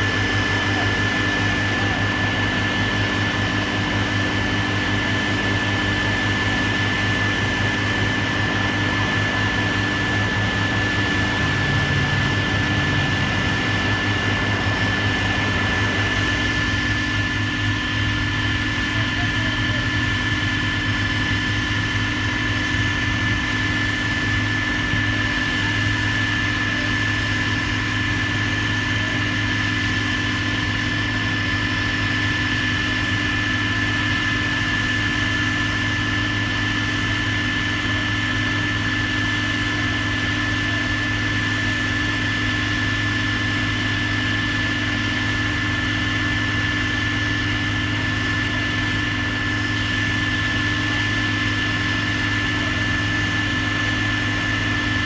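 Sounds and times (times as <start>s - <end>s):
heavy machine engine running: 0.0s - 55.0s
high whine: 0.0s - 55.0s.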